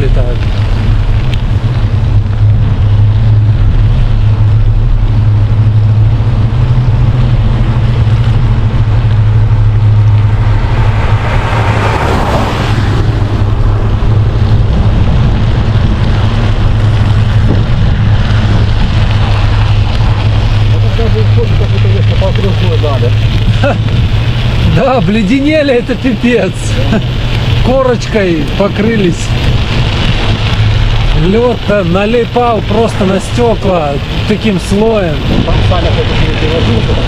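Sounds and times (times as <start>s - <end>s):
vehicle passing: 0.0s - 37.0s
wind buffeting microphone: 0.0s - 37.0s.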